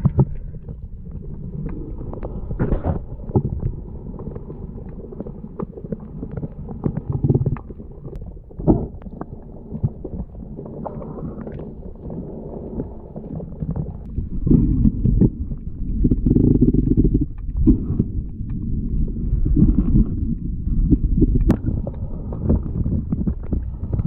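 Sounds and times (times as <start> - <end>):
underwater clicks and knocks: 0.0 - 11.7, 13.5 - 24.0
muffled underwater water movement: 0.0 - 24.0.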